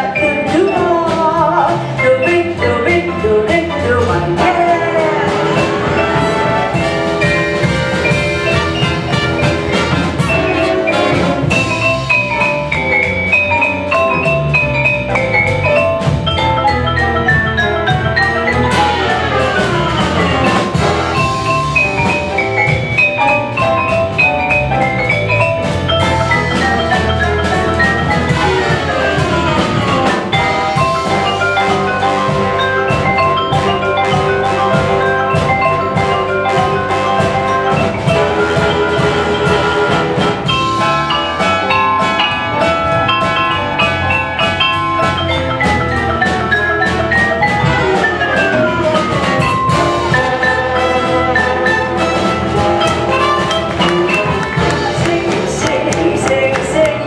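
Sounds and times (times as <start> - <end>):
big band sustained chords: 0.0 - 57.0
xylophone notes: 0.0 - 57.0
falling xylophone runs: 0.1 - 57.0.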